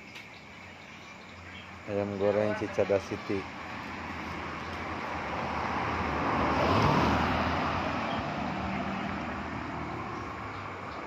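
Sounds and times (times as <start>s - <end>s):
vehicle passing by: 1.9s - 11.0s.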